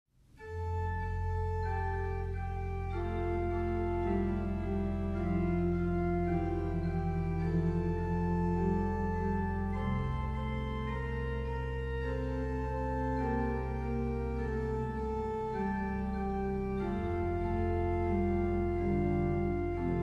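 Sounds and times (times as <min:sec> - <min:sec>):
organ playing slow chords: 0:00.3 - 0:20.0.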